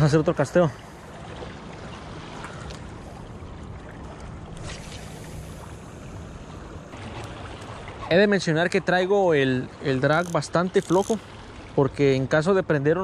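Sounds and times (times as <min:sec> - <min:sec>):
water: 0:00.0 - 0:13.0
wind: 0:00.0 - 0:13.0.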